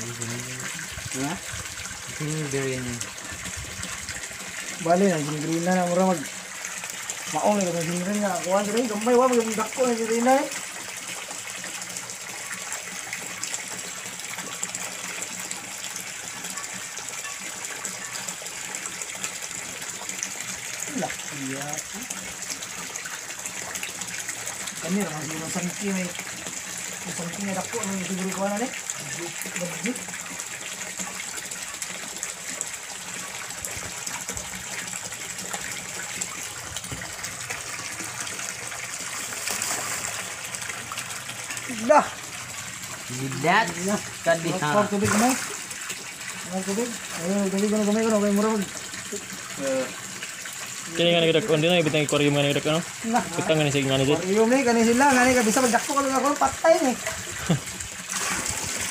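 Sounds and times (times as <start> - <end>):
water jetting and splashing: 0.0 - 58.9.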